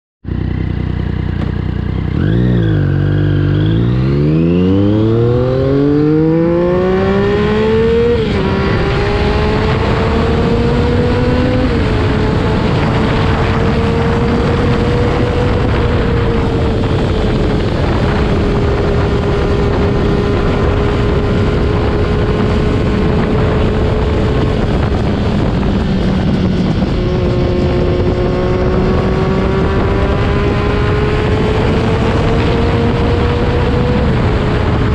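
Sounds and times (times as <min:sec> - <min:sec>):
motorcycle engine revving: 0:00.2 - 0:34.9
wind buffeting microphone: 0:01.2 - 0:34.9.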